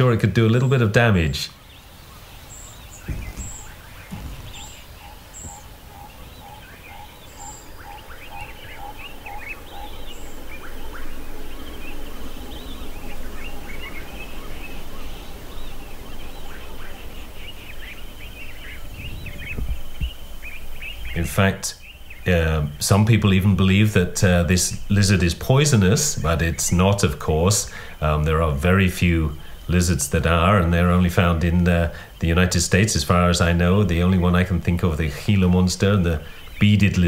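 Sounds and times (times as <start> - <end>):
wild birds calling: 0.0 - 37.0.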